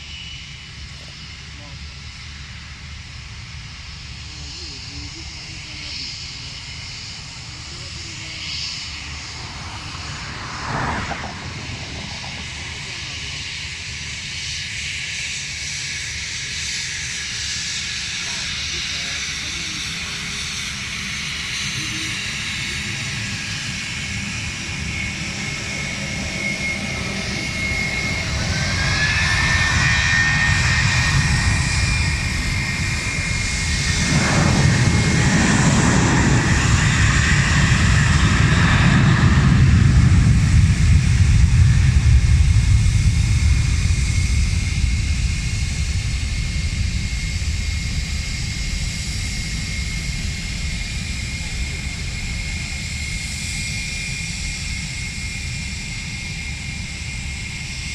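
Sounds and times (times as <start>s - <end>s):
jet engine roar: 0.0s - 57.9s
jet engine whine: 0.0s - 57.9s.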